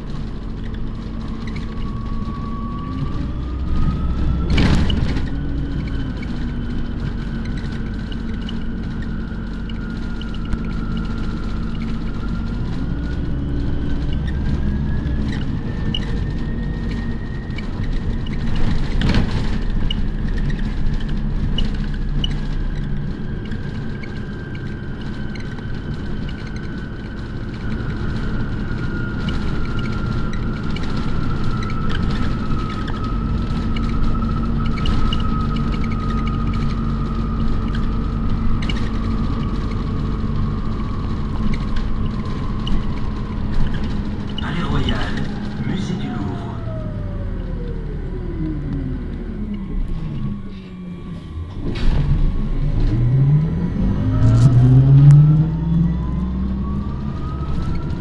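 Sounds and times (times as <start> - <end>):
bus rumble with drive whine: 0.0 - 58.0.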